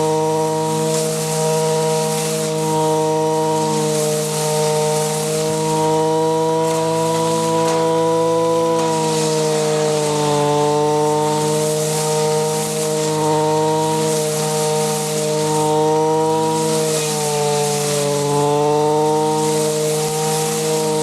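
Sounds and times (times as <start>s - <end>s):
brush cutter engine cutting grass: 0.0s - 21.0s.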